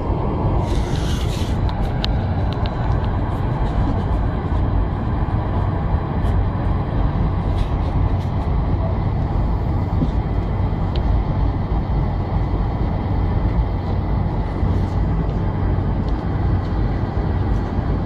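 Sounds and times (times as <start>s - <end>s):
airplane engines and airflow rumble: 0.0s - 18.0s.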